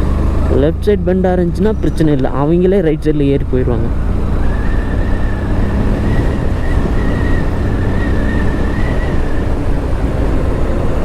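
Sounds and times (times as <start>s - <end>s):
motorcycle engine and wind rumble: 0.0s - 11.0s.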